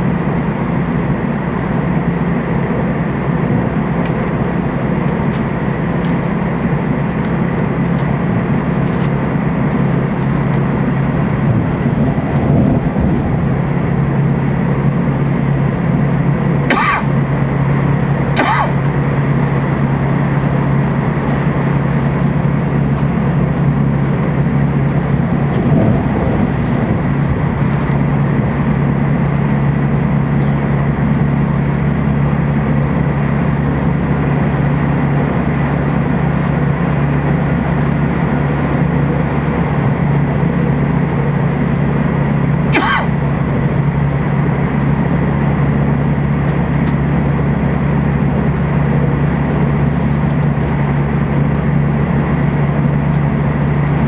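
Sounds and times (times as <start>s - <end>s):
low hum: 0.0s - 54.0s
train wheels rumbling on rail: 0.0s - 54.0s.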